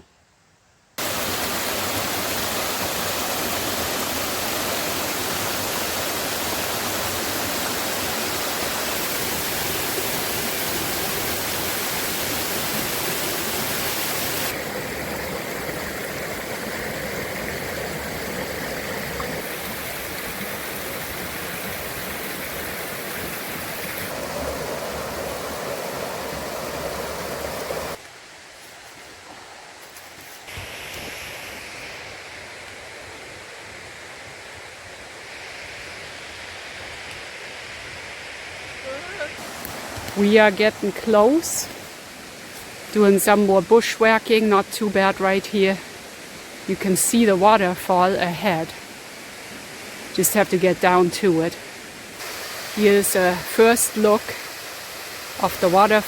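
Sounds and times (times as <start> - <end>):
rushing creek water: 1.0 - 56.0.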